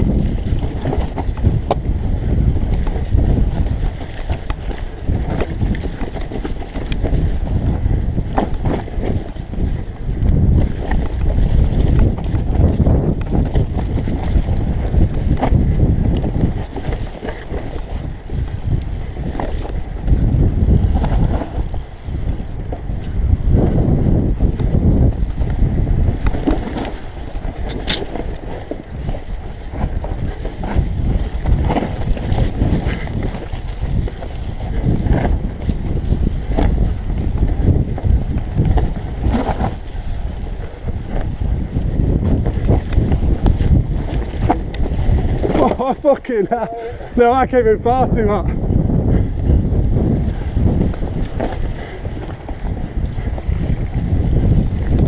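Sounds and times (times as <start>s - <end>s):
bike knocks and rattles: 0.0s - 46.6s, 48.6s - 55.0s
tyres rolling over dirt: 0.0s - 47.9s, 49.6s - 55.0s
wind rushing over microphone: 0.0s - 55.0s.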